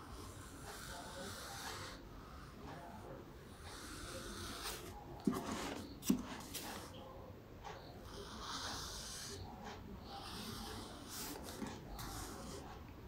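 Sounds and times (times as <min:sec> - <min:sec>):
marker rubbing on paper: 0:00.0 - 0:02.8, 0:03.5 - 0:07.0, 0:08.0 - 0:12.8.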